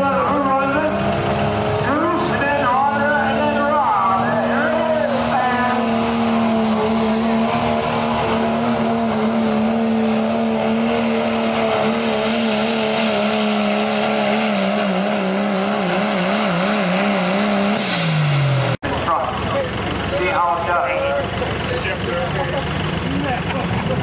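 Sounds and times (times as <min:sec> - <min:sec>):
diesel truck engine at high revs: 0:00.0 - 0:24.0.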